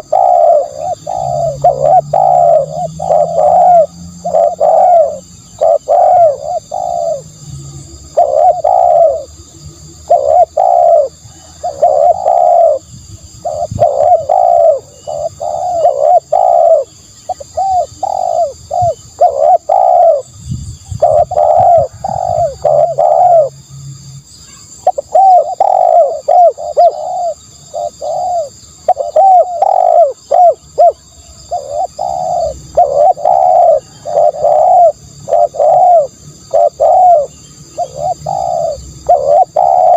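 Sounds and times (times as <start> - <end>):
dove cooing: 0.0 - 23.6, 24.6 - 39.9.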